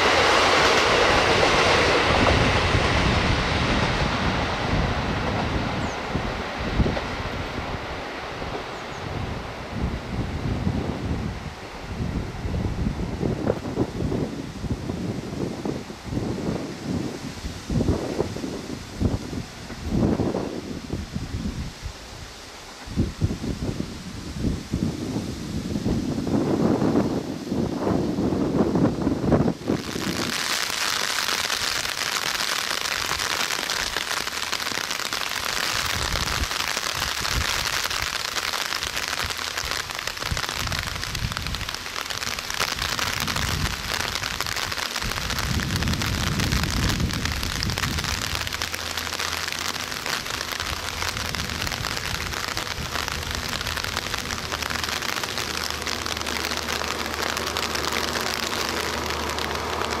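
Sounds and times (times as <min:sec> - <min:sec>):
low rumbling gusts: 0:00.0 - 1:00.0
steady rain falling: 0:00.0 - 1:00.0.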